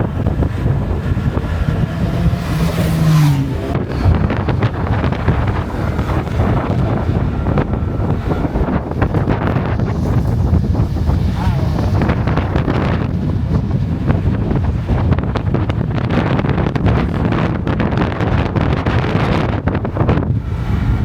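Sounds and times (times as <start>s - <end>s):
motorbike engine rumble: 0.0s - 21.0s
wind buffeting microphone: 0.0s - 21.0s.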